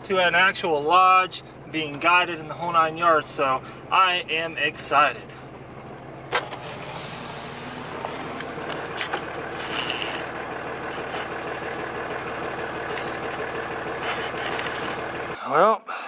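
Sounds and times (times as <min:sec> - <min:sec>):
vehicle engine idling: 0:00.0 - 0:15.4.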